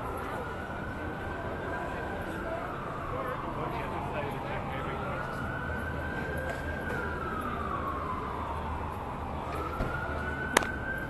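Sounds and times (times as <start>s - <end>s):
emergency siren wailing: 0.0s - 11.0s
low traffic hum: 0.0s - 11.0s.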